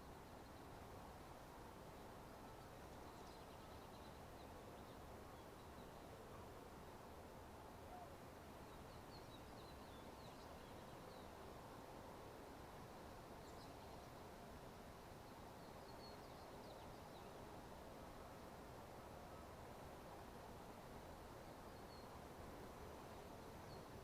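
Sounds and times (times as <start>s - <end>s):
faint background hiss: 0.0s - 24.0s.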